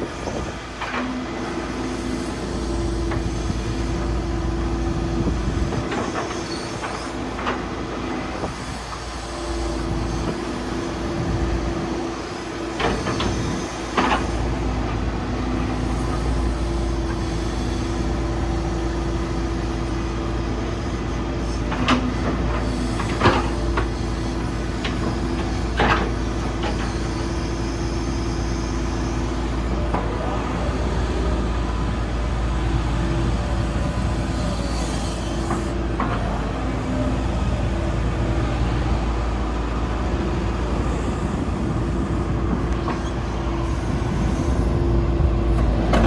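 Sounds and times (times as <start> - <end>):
excavator diesel engine running: 0.0 - 46.0
excavator clunks and knocks: 0.1 - 32.1, 33.0 - 46.0.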